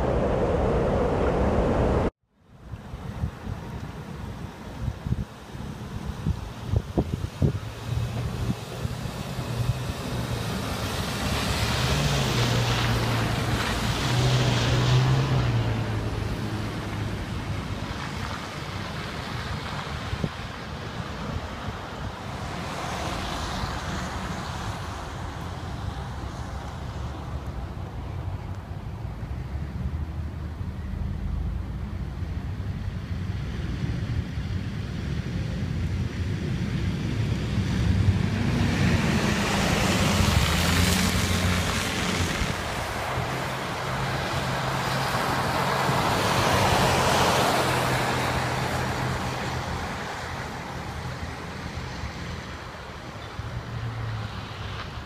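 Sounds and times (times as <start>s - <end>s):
wind buffeting microphone: 0.0s - 53.6s
cars passing on snowy road: 0.0s - 55.0s.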